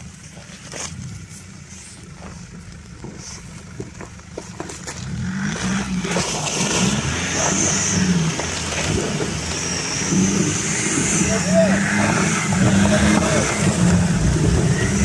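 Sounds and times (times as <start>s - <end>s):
diesel engine revving: 0.7s - 15.0s.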